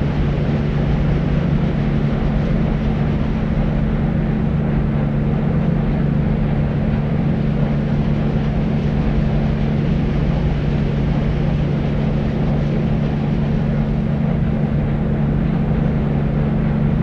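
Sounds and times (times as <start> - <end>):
deep white noise: 0.0 - 17.0.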